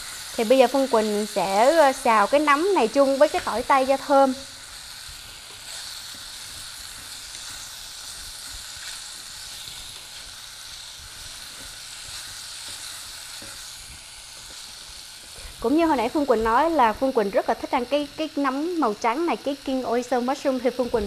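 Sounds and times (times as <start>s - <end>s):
mushrooms sizzling in hot oil: 0.0s - 21.0s.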